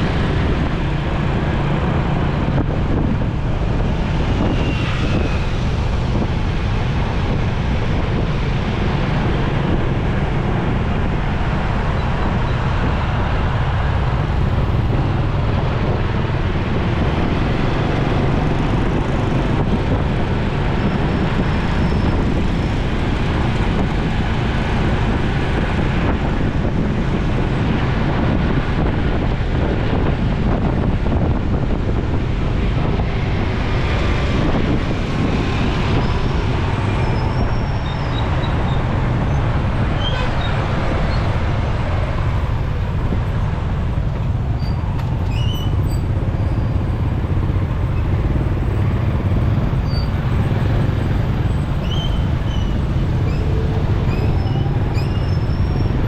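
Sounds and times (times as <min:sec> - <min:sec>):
motorcycle riding: 0:00.0 - 0:56.0
road traffic noise: 0:00.0 - 0:56.0.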